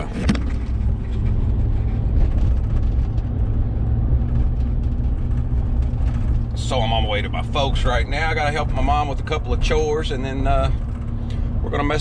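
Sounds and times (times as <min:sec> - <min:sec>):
pickup engine and road rumble: 0:00.0 - 0:12.0.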